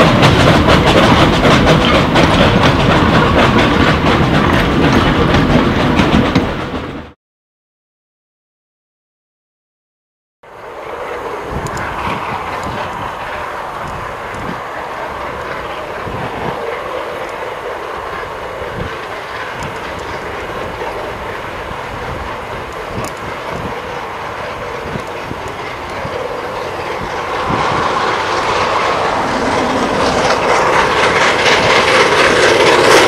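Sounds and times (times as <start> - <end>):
steam locomotive exhaust beats: 0.0 - 7.2, 10.5 - 33.0.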